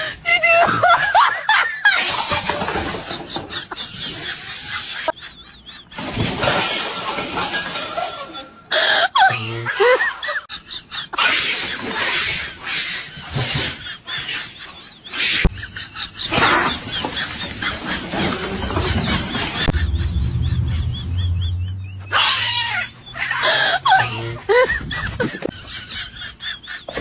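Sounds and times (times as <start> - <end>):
person laughing hard: 0.0 - 6.4, 7.8 - 12.4, 13.1 - 27.0.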